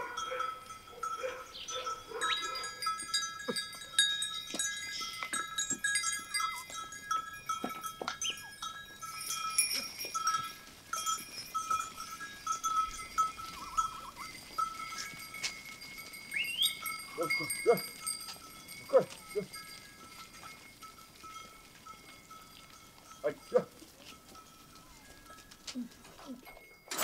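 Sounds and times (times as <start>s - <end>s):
sheep bells jingling: 0.0s - 27.0s.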